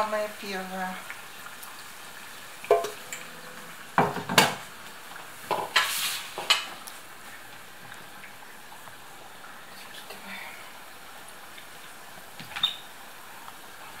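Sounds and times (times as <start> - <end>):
dough sizzling in hot oil: 0.0 - 14.0.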